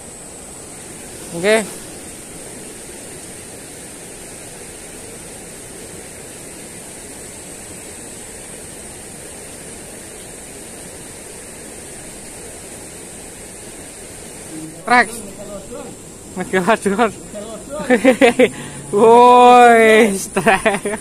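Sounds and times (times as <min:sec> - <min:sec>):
river flowing over rocks: 0:00.0 - 0:21.0
steady high hiss: 0:00.0 - 0:21.0.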